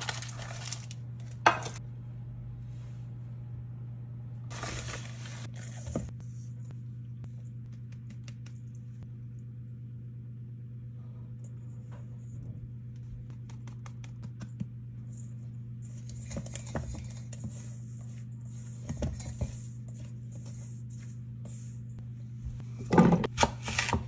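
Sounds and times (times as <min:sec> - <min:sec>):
steady low hum: 0:00.0 - 0:23.3.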